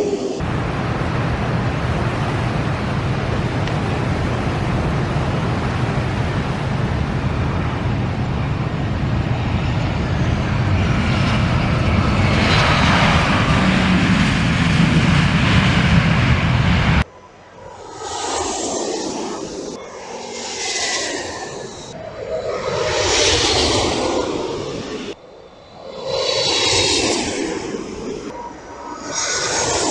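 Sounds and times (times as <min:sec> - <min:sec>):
jet airliner engines rumbling: 0:00.0 - 0:29.9.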